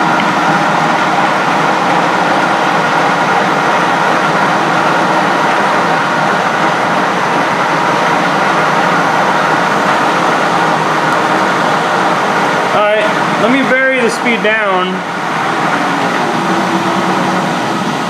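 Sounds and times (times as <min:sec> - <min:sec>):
lathe motor whirring: 0:00.0 - 0:18.0.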